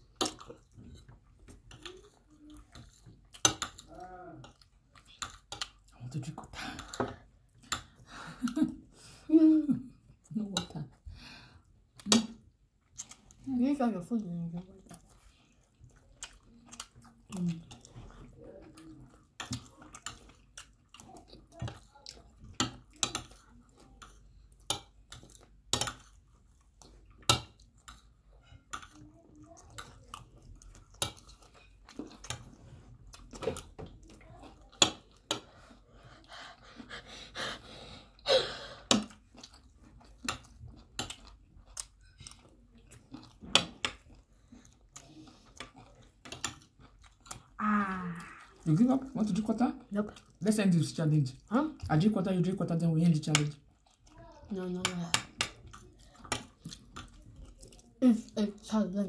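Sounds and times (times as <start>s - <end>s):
people chewing: 0.0s - 59.0s.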